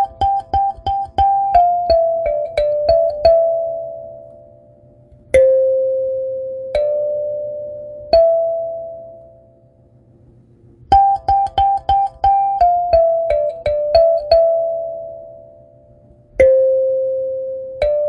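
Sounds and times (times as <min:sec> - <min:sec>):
kalimba notes: 0:00.0 - 0:09.6, 0:10.9 - 0:18.0.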